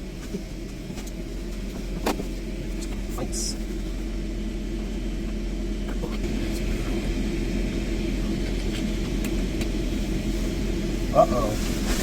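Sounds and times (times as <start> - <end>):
aircraft cabin ventilation hum: 0.0 - 12.0.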